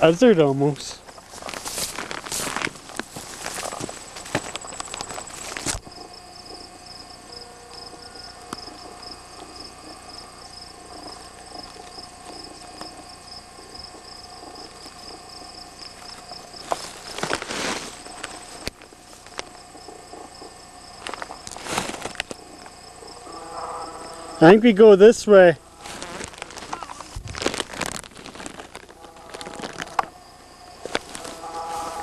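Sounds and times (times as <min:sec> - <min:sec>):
insects trilling: 0:00.0 - 0:32.0
footsteps through dry grass: 0:01.0 - 0:07.1, 0:07.8 - 0:24.1, 0:25.6 - 0:32.0.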